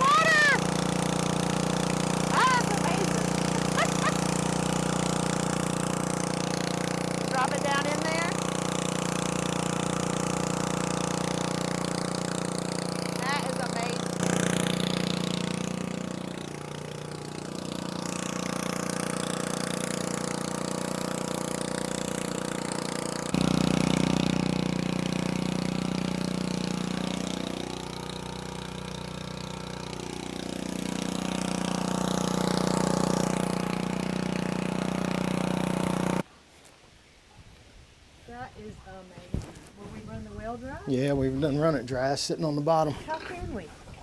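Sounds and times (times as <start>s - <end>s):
water pump engine humming: 0.0s - 36.3s, 39.8s - 44.0s.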